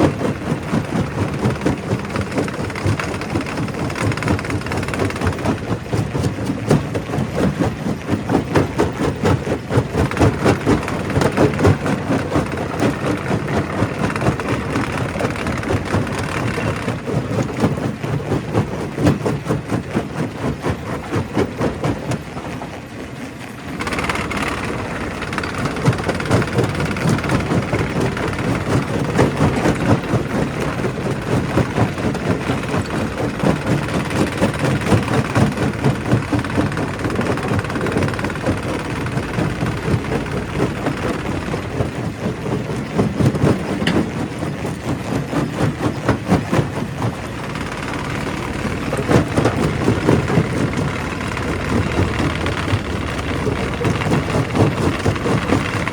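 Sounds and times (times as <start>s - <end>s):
machine drone: 0.0s - 18.9s, 23.4s - 55.9s
rock crusher grinding stone: 0.0s - 21.9s, 23.8s - 55.9s.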